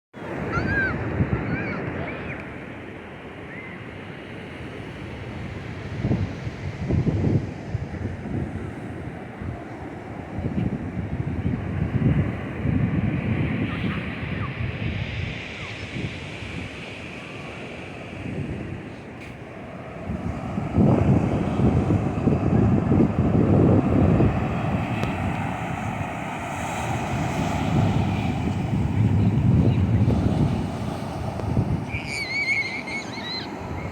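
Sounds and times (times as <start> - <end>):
ocean surf rushing on shore: 0.2 - 33.9
wind buffeting microphone: 0.3 - 2.4, 4.7 - 33.9.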